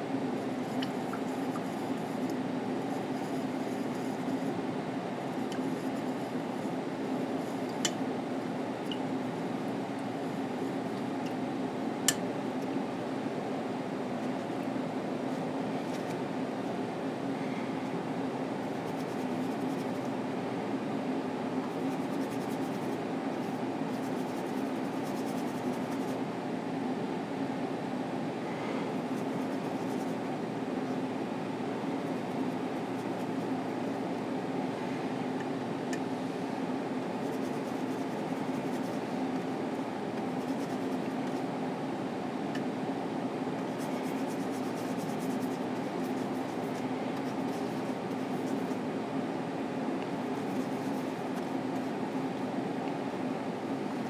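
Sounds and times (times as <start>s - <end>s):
faint constant tone: 0.0s - 54.0s
room noise hum: 0.0s - 54.0s.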